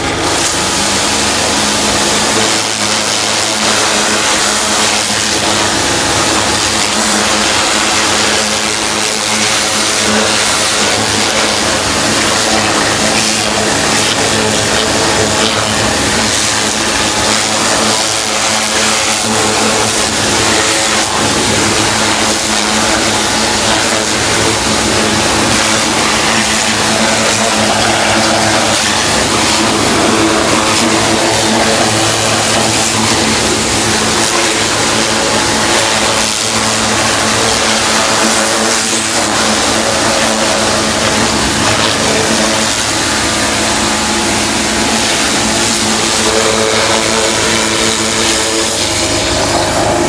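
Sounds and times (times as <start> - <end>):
car engine running: 0.0 - 50.0
pressure washer spraying: 0.0 - 50.0.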